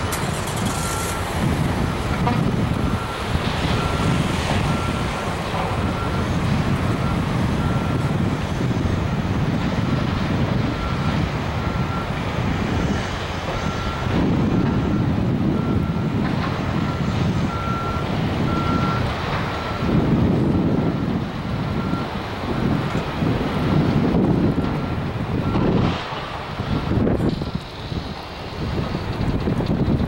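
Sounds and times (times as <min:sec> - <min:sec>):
freight train rumbling: 0:00.0 - 0:30.0.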